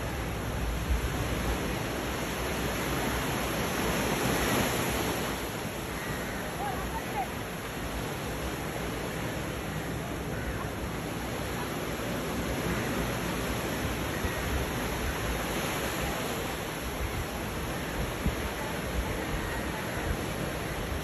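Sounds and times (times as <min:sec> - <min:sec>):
ocean waves washing onto beach: 0:00.0 - 0:21.0.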